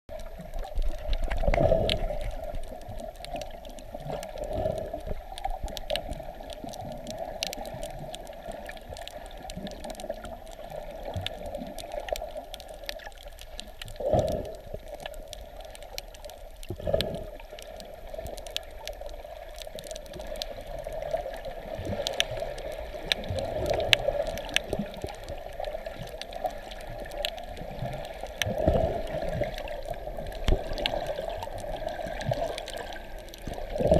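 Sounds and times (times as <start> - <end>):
underwater water sloshing and gurgling: 0.1 - 33.9.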